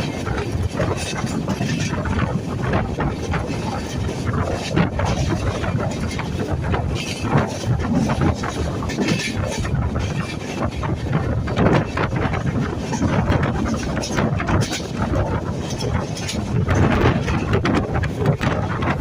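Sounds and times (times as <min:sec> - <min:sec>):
moving train running noise: 0:00.0 - 0:19.0.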